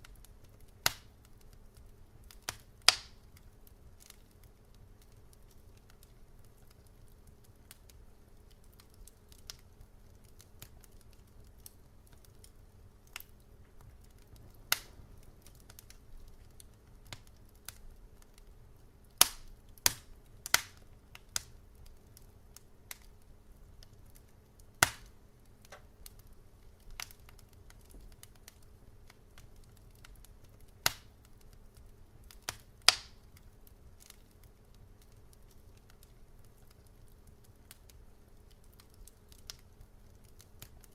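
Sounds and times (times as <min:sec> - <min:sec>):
faint low hum: 0:00.0 - 0:40.9
wood fire crackling: 0:00.0 - 0:40.9.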